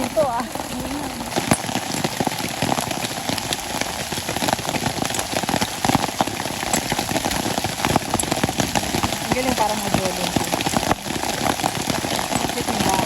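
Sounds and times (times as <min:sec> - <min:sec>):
hail and heavy rain pelting: 0:00.0 - 0:13.0.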